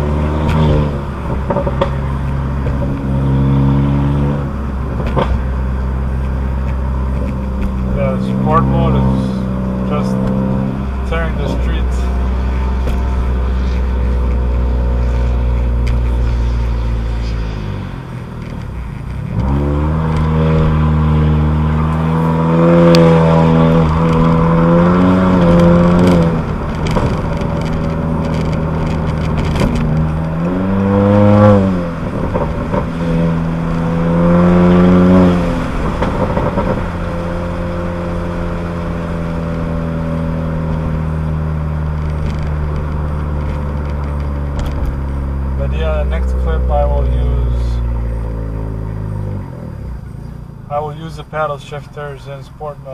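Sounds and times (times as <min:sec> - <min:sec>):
car engine and exhaust from inside: 0:00.0 - 0:52.9.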